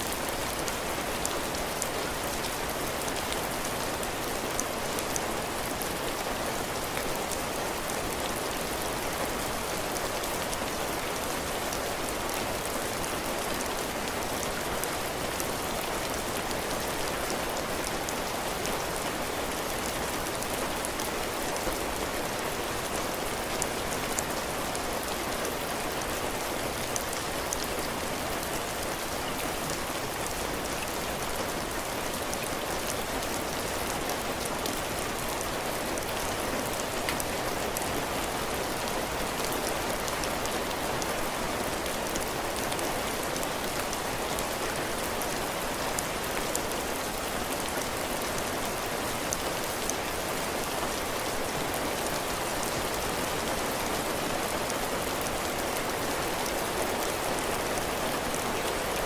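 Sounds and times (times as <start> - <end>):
heavy rain pattering on roof: 0.0 - 59.0.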